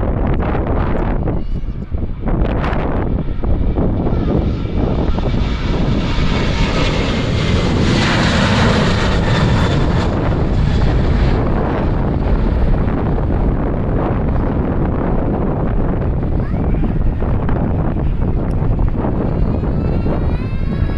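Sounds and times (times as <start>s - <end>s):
jet engines at takeoff: 0.0s - 20.9s
wind buffeting microphone: 0.0s - 20.9s.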